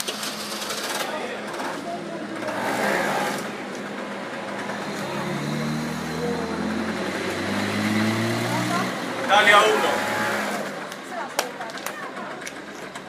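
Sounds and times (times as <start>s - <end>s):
street background noise: 0.0s - 13.0s
vehicle engine running: 0.0s - 13.0s.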